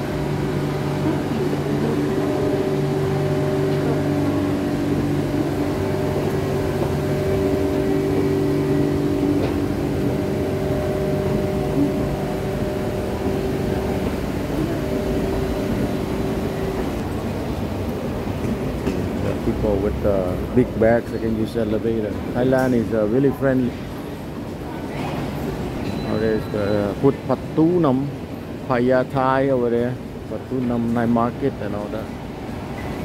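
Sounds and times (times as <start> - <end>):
electric train motors humming: 0.0 - 33.0.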